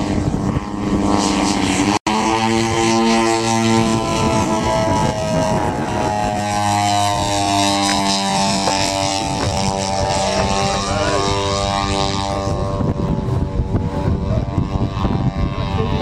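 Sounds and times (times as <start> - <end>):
model plane engines droning: 0.0 - 16.0.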